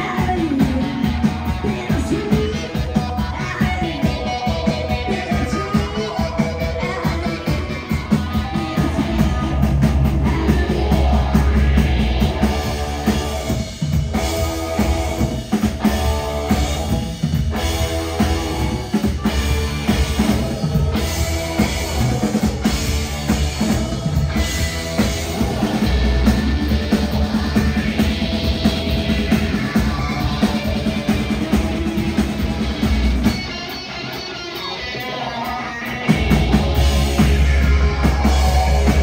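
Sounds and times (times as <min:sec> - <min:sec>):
live band playing: 0:00.0 - 0:39.0.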